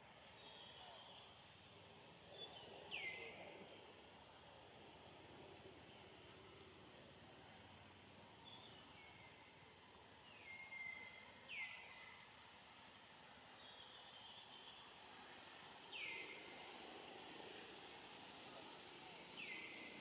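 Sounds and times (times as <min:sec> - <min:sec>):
low ambient hiss: 0:00.0 - 0:20.0.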